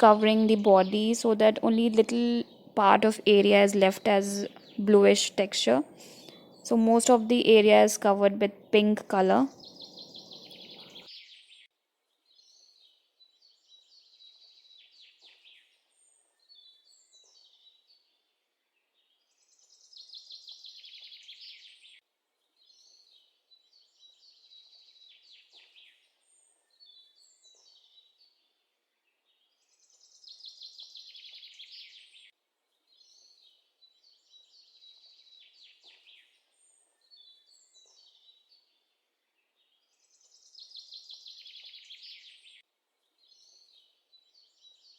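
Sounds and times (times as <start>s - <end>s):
faint birdsong: 0.0s - 44.9s.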